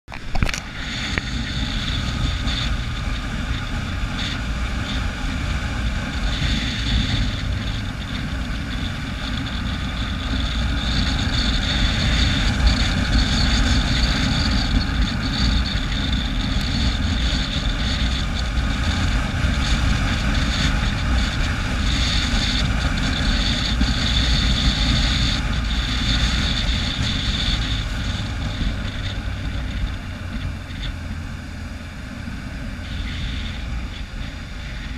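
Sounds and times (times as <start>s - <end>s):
motorcycle engine running: 0.0s - 34.9s
wind rushing over microphone: 0.1s - 34.9s.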